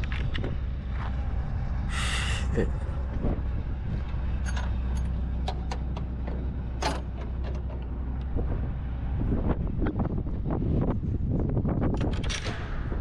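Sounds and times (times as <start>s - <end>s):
diesel truck engine idling: 0.5s - 11.3s.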